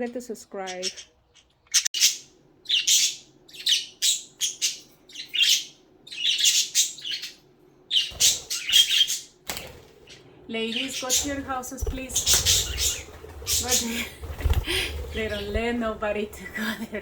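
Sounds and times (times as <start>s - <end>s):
budgerigars chirping: 0.6s - 9.4s, 10.0s - 16.4s.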